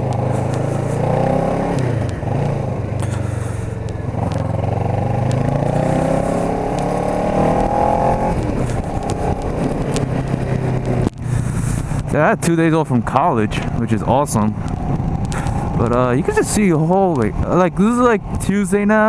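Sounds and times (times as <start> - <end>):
motorcycle engine accelerating: 0.0 - 18.4.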